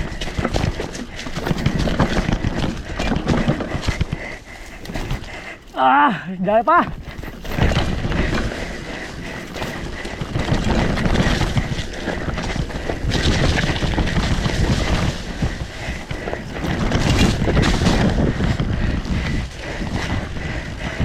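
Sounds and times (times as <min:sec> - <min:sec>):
bike tyre rumble and rattle: 0:00.0 - 0:21.0
wind rushing over microphone: 0:00.0 - 0:21.0.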